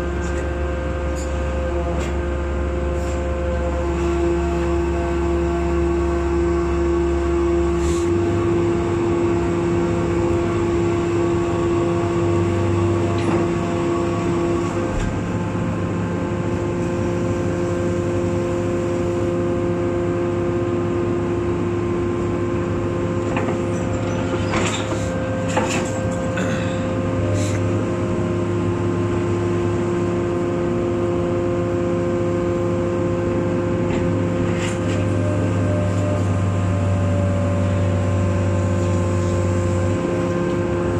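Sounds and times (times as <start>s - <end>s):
machine hum with droning tones: 0.0s - 40.9s.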